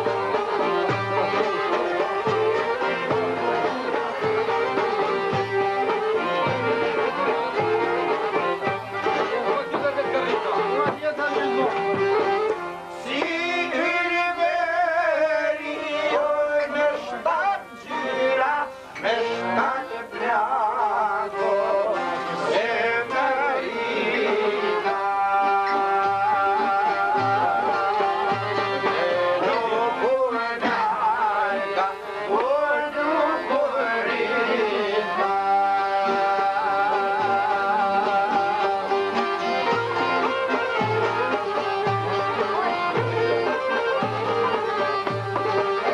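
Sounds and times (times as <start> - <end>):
folk instrumental music: 0.0 - 45.9
person singing: 0.0 - 45.9
plucked lutes: 0.0 - 45.9.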